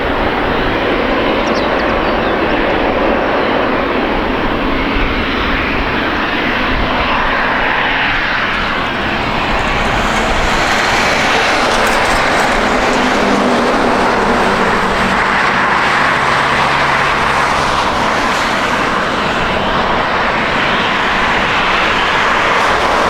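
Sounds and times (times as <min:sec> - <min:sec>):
jet airliner engine noise: 0:00.0 - 0:23.0.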